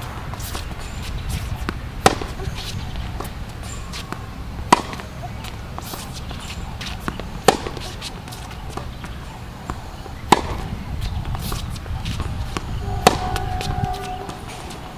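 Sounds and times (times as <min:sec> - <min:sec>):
tennis ball bouncing: 0:00.1 - 0:14.9
tennis ball struck by racket: 0:00.2 - 0:14.9.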